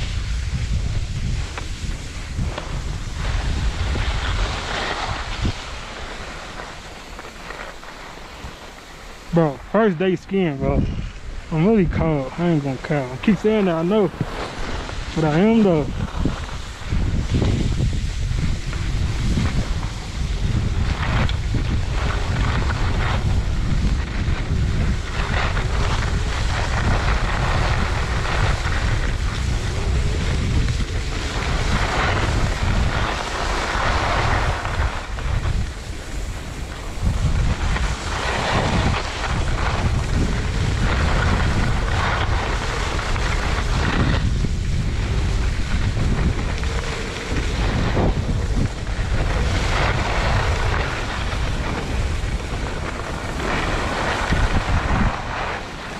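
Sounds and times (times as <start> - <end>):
skis scraping packed snow: 0.0 - 55.9
wind buffeting microphone: 0.0 - 55.9.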